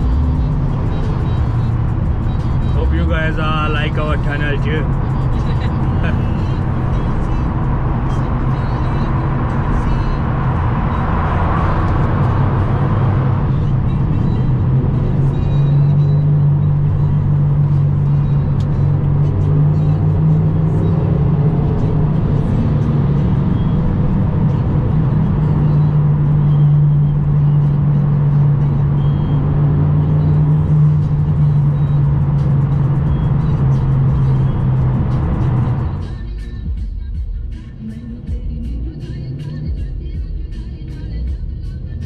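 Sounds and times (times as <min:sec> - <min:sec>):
pickup engine droning: 0:00.0 - 0:36.7
music playing: 0:00.0 - 0:42.0.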